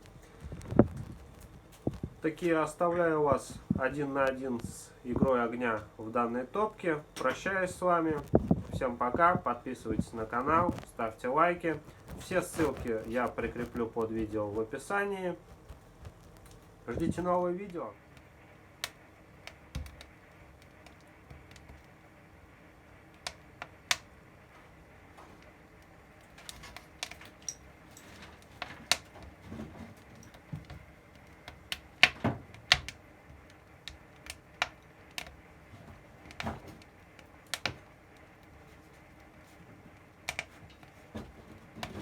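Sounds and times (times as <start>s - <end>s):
wood fire snapping and popping: 0.0s - 42.0s.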